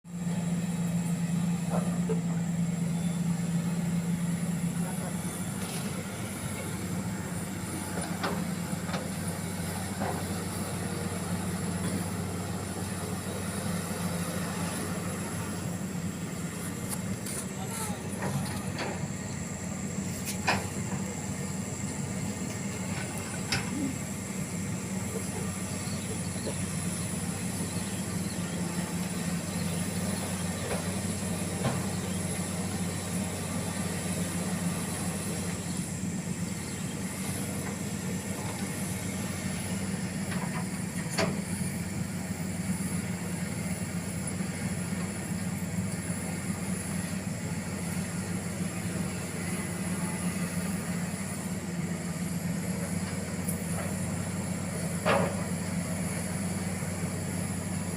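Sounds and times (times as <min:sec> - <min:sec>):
large engine idling: 0:00.0 - 0:57.9.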